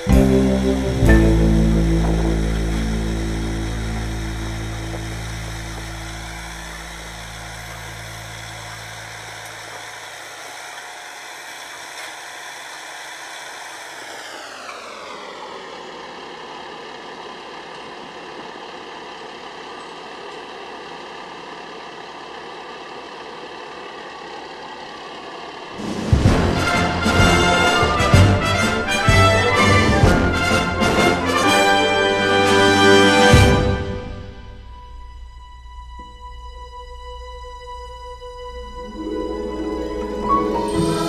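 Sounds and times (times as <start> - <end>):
vacuum truck engine whine: 0.0 - 41.0.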